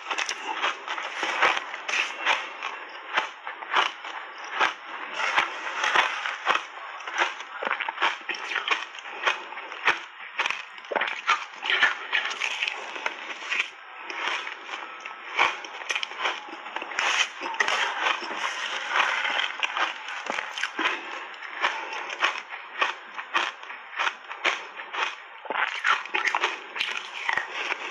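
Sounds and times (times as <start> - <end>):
ice crunching being chewed: 0.0 - 27.9.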